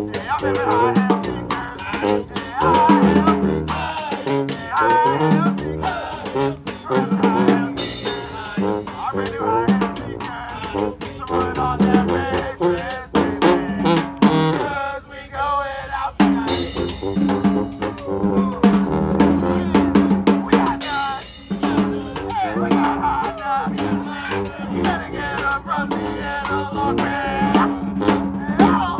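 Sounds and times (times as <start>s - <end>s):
drum kit beat: 0.0s - 14.7s, 16.2s - 28.9s
horns playing melody: 0.0s - 28.9s.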